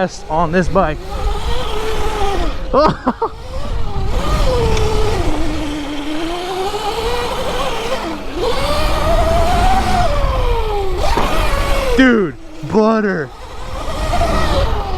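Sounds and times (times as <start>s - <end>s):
electric motor whining: 0.0s - 14.9s
rumble of wind and tyres: 0.0s - 14.9s.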